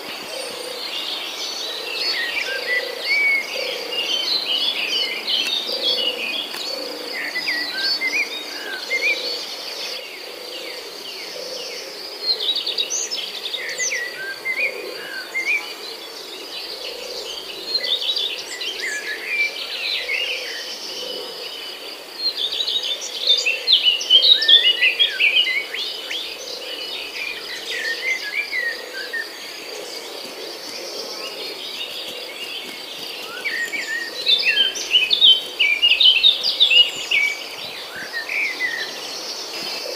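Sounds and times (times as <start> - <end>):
birds chirping and calling: 0.0 - 15.9, 16.6 - 39.9.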